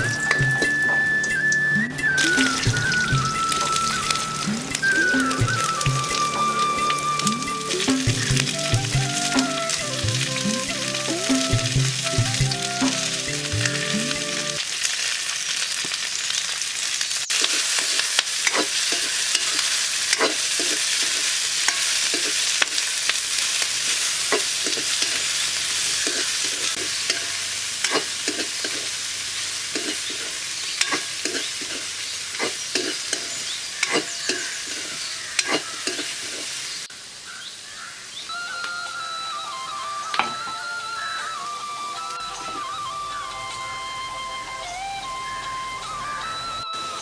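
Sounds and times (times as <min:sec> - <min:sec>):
vegetables sizzling in oil: 0:00.0 - 0:39.1.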